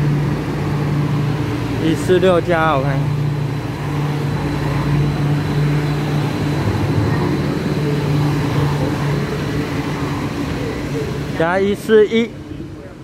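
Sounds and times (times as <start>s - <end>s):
metro train running: 0.0s - 13.0s.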